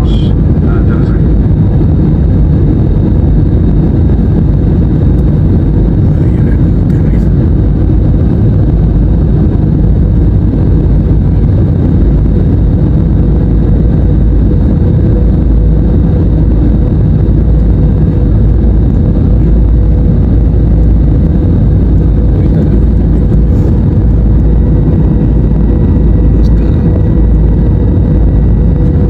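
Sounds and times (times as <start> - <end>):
airliner engine and airflow rumble: 0.0 - 29.0
faint steady hum: 0.0 - 29.0.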